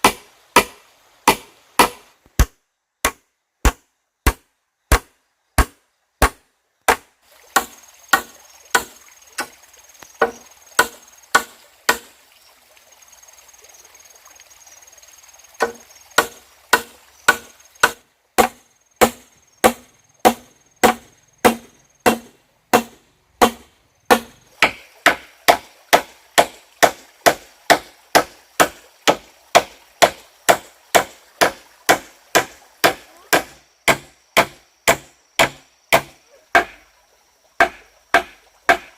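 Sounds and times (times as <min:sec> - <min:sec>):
hand tool striking wood: 0:00.0 - 0:09.5, 0:10.2 - 0:12.1, 0:15.6 - 0:36.8, 0:37.6 - 0:38.9.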